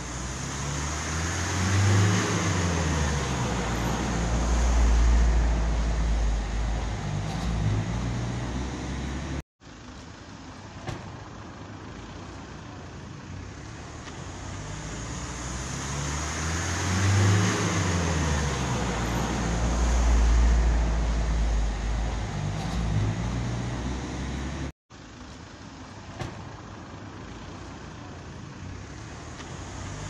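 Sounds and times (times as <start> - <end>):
vehicle engine and tyre noise: 0.0 - 30.0.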